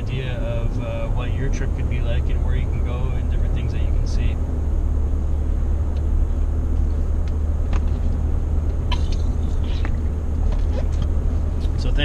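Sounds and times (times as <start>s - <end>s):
road and engine drone in cabin: 0.0s - 12.0s.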